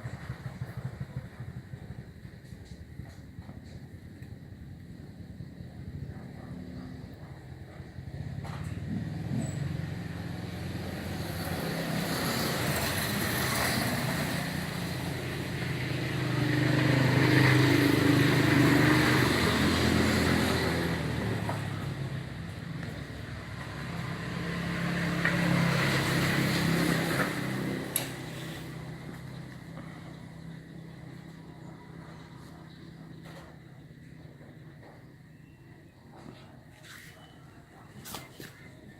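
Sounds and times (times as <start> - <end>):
traffic passing: 0.0 - 38.9.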